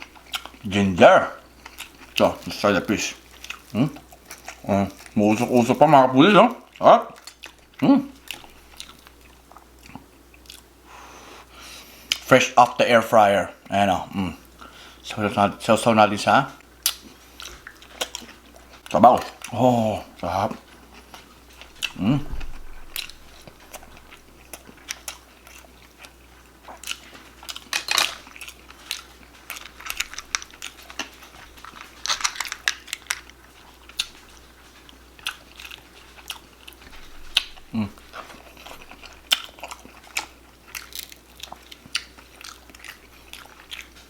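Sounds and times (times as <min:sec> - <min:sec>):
person chewing food: 0:00.0 - 0:00.8, 0:01.4 - 0:12.3, 0:16.6 - 0:44.0.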